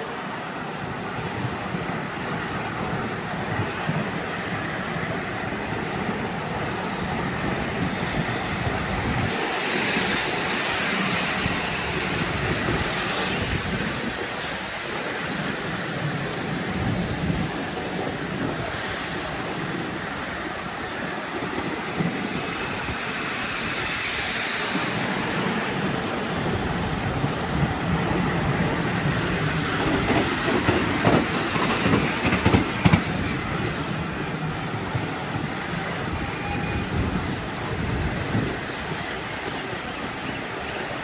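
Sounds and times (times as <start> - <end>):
train wheels rumbling on rails: 0.0 - 41.0
wheels clicking over rail joints: 1.3 - 41.0.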